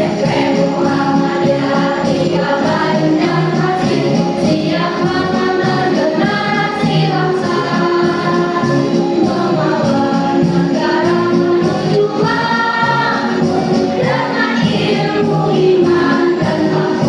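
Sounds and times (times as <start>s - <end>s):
choir singing in harmony: 0.0s - 17.0s.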